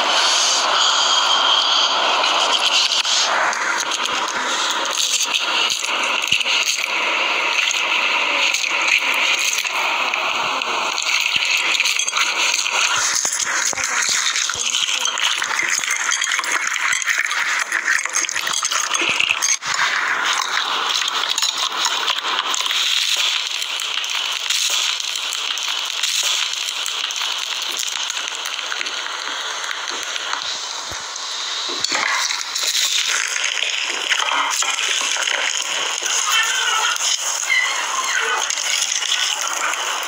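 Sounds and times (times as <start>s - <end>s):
foam beads crackling and popping: 0.0s - 40.0s.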